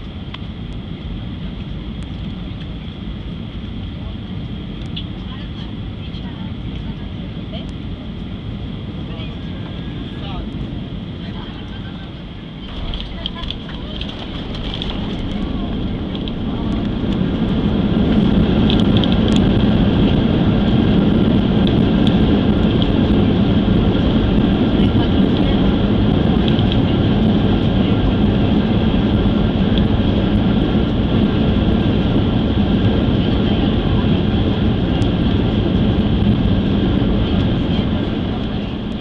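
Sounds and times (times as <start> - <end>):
jet engines and airflow in cabin: 0.0 - 39.0.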